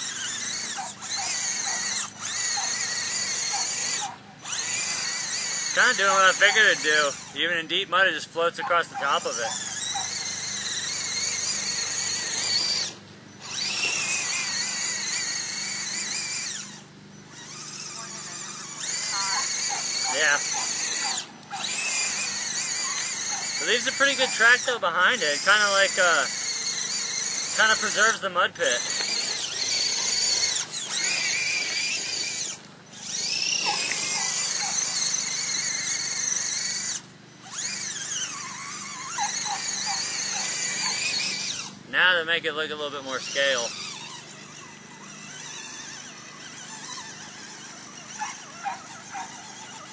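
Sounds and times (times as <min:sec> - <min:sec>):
electric motor whining: 0:00.0 - 0:49.9.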